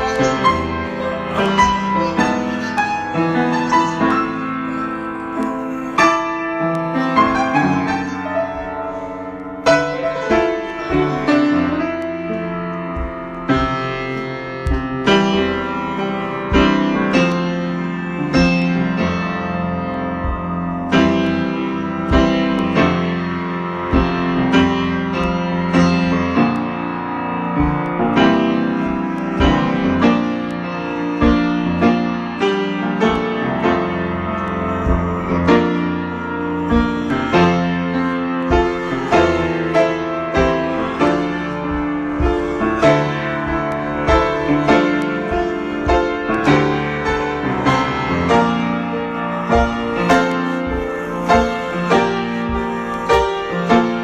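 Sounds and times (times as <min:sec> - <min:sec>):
solo piano improvising: 0:00.0 - 0:54.0.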